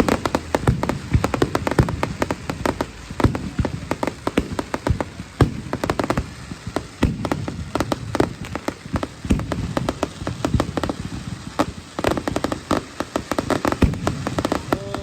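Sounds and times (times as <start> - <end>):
deep firework booms: 0.0 - 15.0
fireworks crackling: 0.0 - 15.0.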